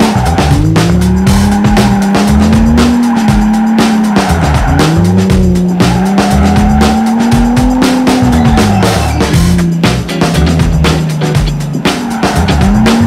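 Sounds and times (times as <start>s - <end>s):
car engine revving hard: 0.0s - 13.0s
music: 0.0s - 13.0s
tyres squealing: 0.0s - 13.0s.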